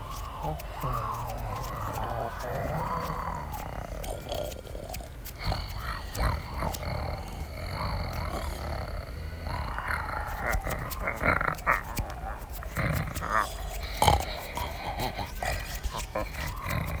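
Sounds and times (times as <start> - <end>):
wild animals roaring and growling: 0.0 - 17.0.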